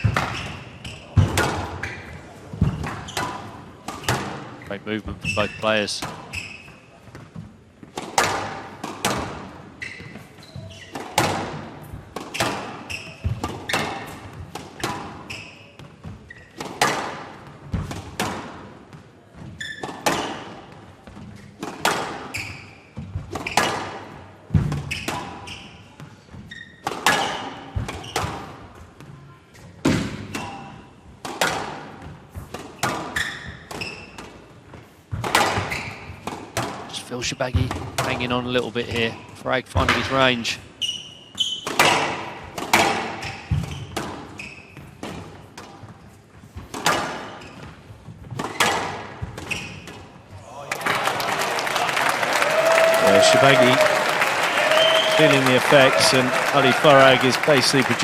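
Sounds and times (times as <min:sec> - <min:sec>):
squash ball hitting rackets and walls: 0:00.0 - 0:50.4.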